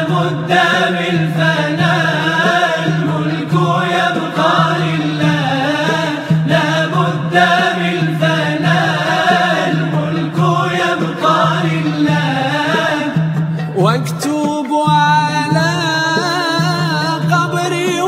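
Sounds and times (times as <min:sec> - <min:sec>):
chanted vocal melody: 0:00.0 - 0:18.0.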